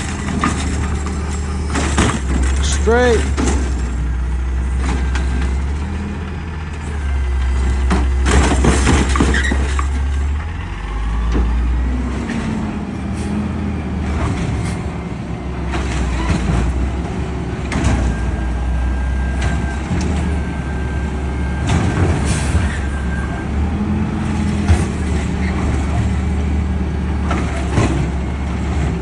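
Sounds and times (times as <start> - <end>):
diesel truck engine droning: 0.0 - 29.0.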